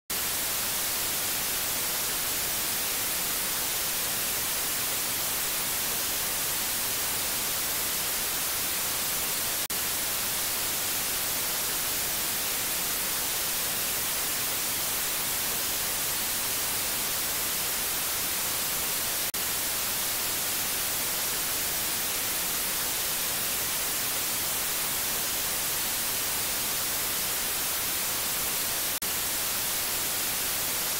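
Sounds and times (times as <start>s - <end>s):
white noise hiss: 0.1s - 30.9s.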